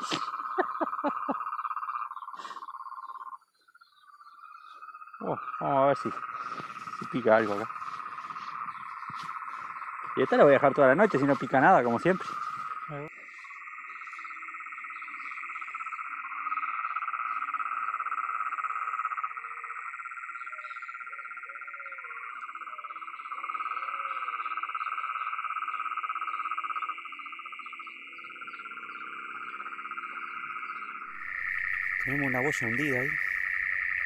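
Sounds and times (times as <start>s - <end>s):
frogs calling in a chorus: 0.0s - 34.0s.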